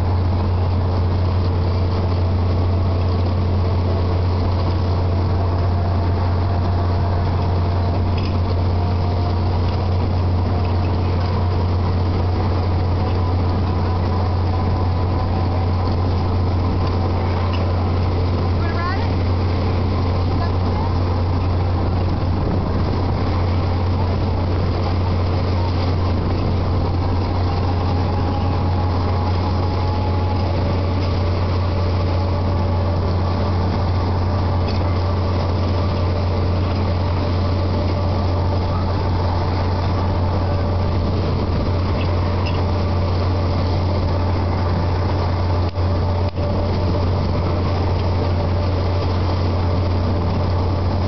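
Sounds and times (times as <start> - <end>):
faint steady tones: 0.0 - 51.0
low machinery drone: 0.0 - 51.0.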